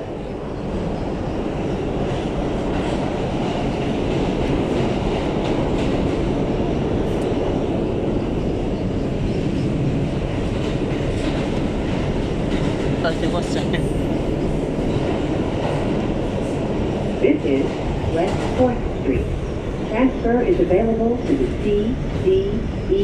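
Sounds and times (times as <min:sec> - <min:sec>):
subway car rumbling on rails: 0:00.0 - 0:23.0.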